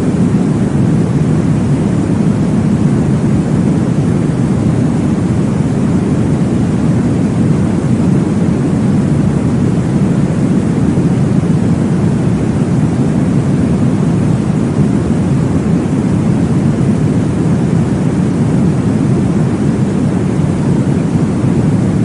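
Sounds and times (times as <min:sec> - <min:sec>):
deep whooshing white noise: 0:00.0 - 0:22.0.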